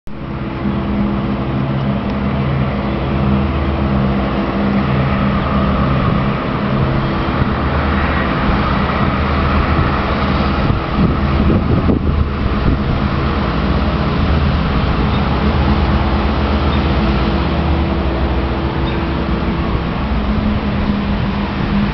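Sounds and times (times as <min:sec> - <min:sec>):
low engine rumble: 0:00.1 - 0:21.9.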